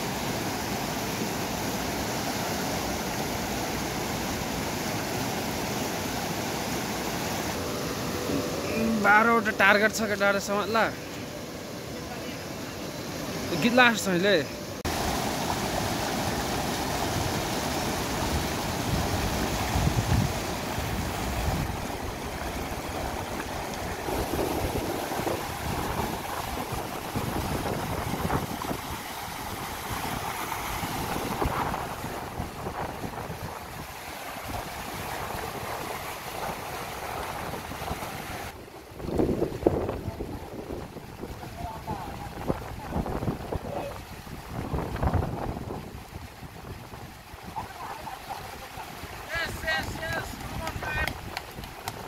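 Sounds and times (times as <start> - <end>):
water rushing over rocks: 0.0 - 52.0.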